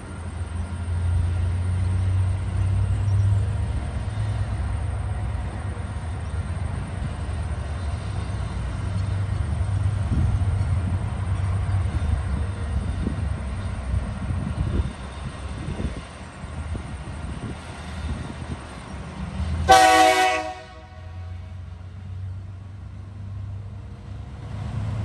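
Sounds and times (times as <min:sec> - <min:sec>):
diesel locomotive engines droning: 0:00.0 - 0:25.0.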